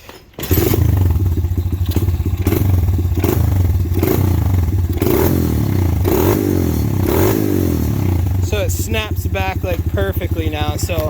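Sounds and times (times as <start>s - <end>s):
small engine throttle blipping: 0.4s - 11.0s.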